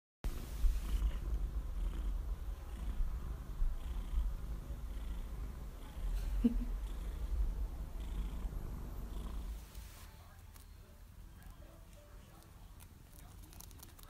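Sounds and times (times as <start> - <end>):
cat purring: 0.3 - 14.0.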